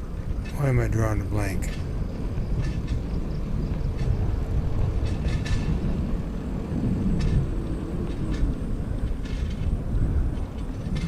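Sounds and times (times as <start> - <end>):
bike rattles: 0.0 - 11.0
wind buffeting microphone: 0.0 - 11.0.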